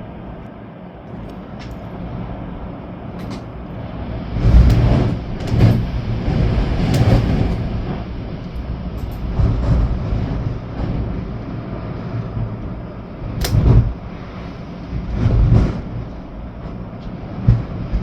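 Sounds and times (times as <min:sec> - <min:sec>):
strong wind rumbling: 0:00.0 - 0:18.0
wind gusts buffeting microphone: 0:00.0 - 0:18.0.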